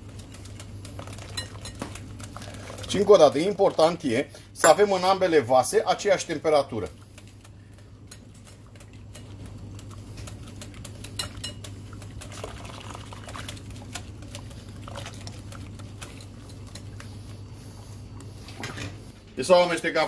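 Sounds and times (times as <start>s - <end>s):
whisk beating in glass bowl: 0.0s - 5.4s, 6.0s - 17.4s
steady low hum: 0.0s - 20.0s.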